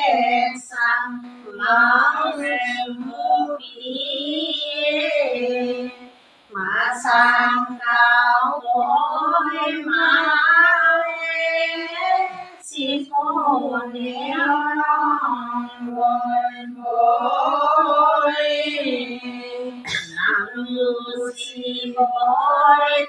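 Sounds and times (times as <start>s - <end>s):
women singing unaccompanied: 0.0s - 23.0s.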